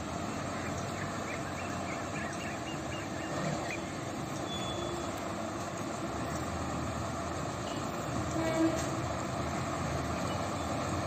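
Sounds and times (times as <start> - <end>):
diesel bus engines idling: 0.0 - 11.0.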